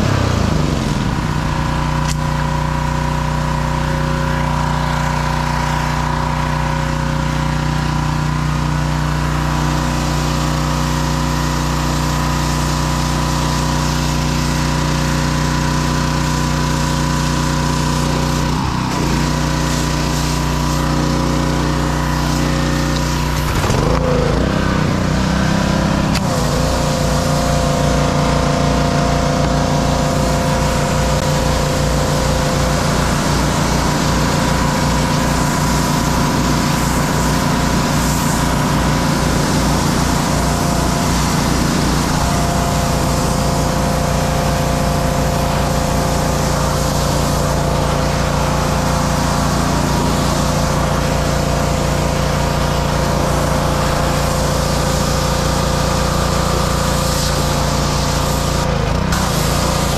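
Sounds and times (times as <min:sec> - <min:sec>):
pressure washer engine running: 0:00.0 - 0:59.9.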